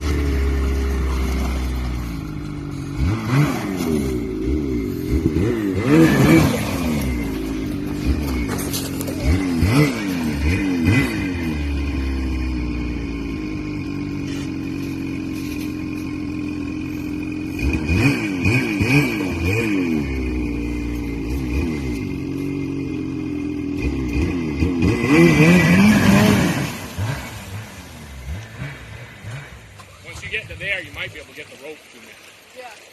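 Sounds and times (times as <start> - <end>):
vehicle engine idling and revving: 0.0 - 31.6.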